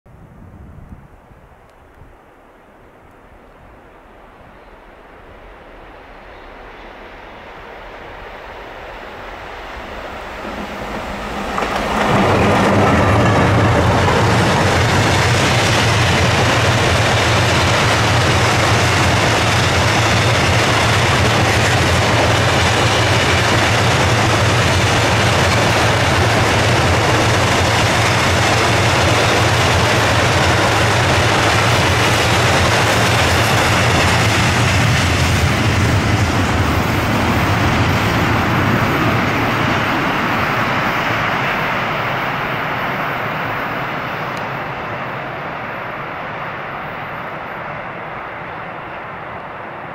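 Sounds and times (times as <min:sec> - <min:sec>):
electric locomotives passing: 0:03.2 - 0:49.9.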